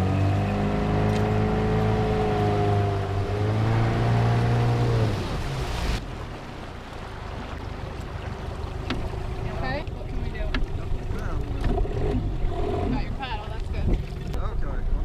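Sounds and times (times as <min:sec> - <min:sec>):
motorboat engine: 0:00.0 - 0:15.0
wind and water rushing: 0:00.0 - 0:15.0.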